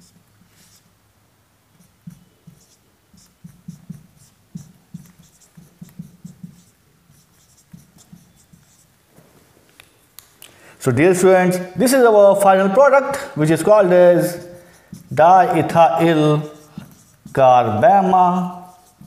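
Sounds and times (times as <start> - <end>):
marker pen writing on whiteboard: 0.0 - 0.9, 1.7 - 9.0, 11.1 - 19.0.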